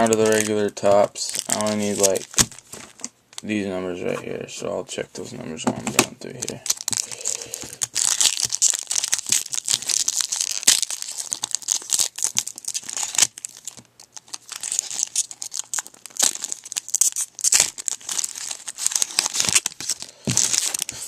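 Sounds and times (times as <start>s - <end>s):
foil wrapper crinkling and tearing: 0.0s - 3.5s, 6.3s - 21.0s.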